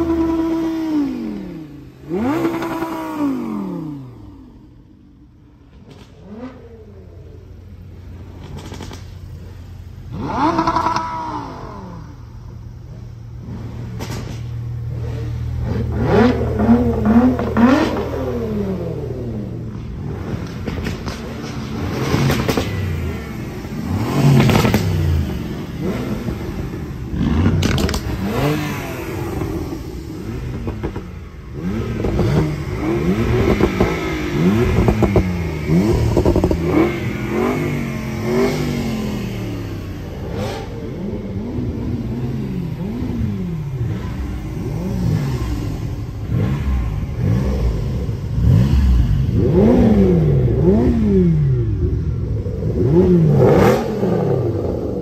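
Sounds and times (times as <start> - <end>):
sports car engines revving: 0.0 - 55.0.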